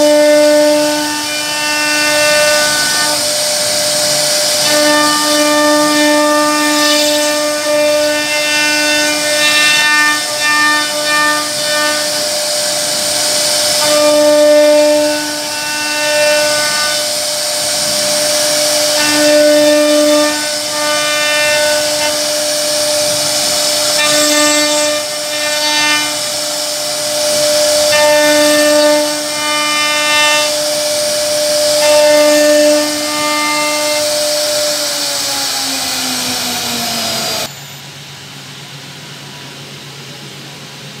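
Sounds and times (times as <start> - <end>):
router spindle whine: 0.0 - 38.1.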